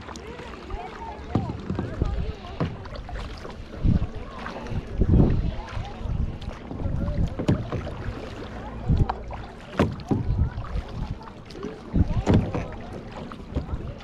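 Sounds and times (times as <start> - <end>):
paddle splashing in water: 0.0 - 14.0
wind rumble on microphone: 0.8 - 14.0.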